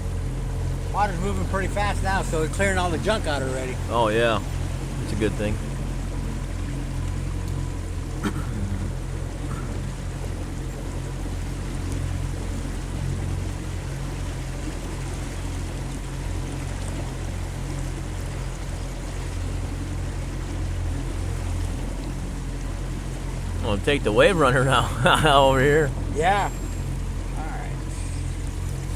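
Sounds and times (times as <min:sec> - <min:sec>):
motorboat engine humming: 0:00.0 - 0:28.9
water rushing along hull: 0:00.0 - 0:28.9.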